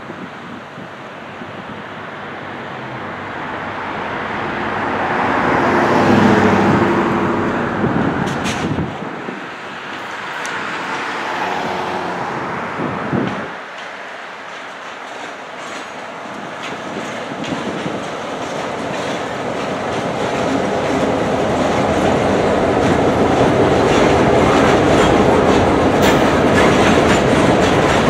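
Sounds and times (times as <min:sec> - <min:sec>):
diesel locomotives droning: 0:00.0 - 0:28.0.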